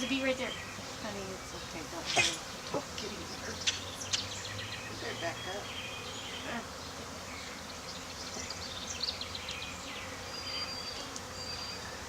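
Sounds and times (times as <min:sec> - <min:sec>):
swarm of bees buzzing: 0:00.0 - 0:12.0.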